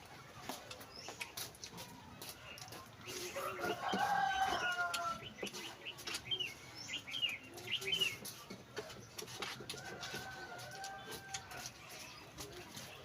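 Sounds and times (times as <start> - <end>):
birds calling and chirping: 0.0 - 13.0.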